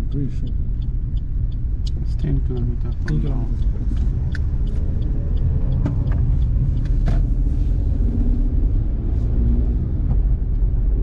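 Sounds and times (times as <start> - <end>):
road rumble inside moving car: 0.0 - 11.0.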